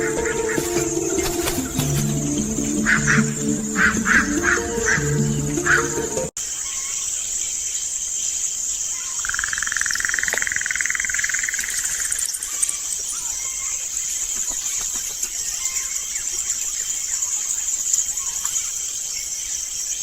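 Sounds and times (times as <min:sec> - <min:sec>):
crickets trilling: 0:00.0 - 0:20.0
lower rapid insect trill: 0:00.0 - 0:20.0.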